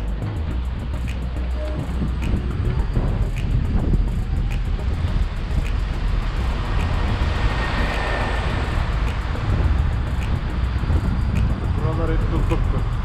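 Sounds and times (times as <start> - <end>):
passing engine: 0.0 - 13.0
wind noise on microphone: 0.0 - 13.0.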